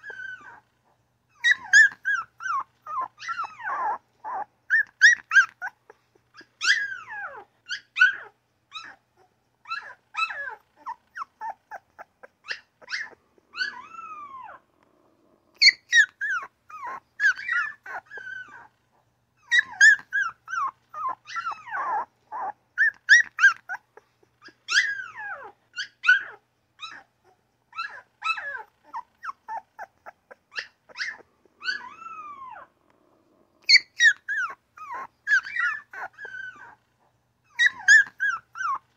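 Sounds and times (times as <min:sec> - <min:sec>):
puppies whining and squeaking: 0:00.0 - 0:14.7, 0:15.5 - 0:38.9.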